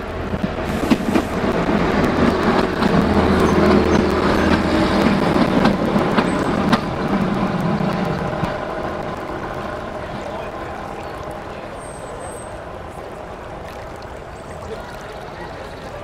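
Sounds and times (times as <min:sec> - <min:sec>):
model train rumbling: 0:00.0 - 0:14.6.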